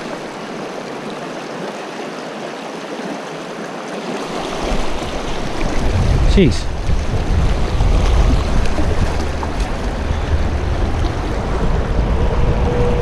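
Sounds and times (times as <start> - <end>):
shallow river rushing and splashing: 0.0 - 13.0.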